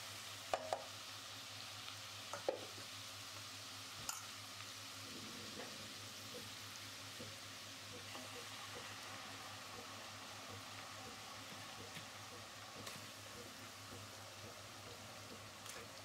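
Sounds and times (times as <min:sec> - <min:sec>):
oil sizzling in a pot: 0:00.0 - 0:16.0.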